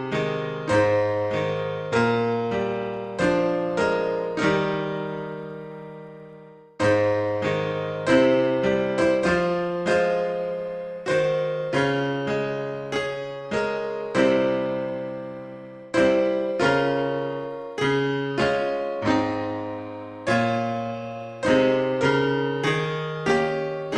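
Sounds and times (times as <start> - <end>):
slow solo piano chords: 0.0 - 23.9.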